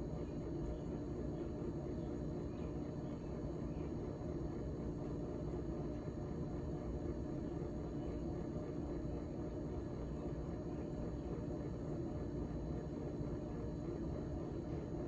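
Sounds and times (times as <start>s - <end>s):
refrigerator fan hum: 0.0s - 15.0s.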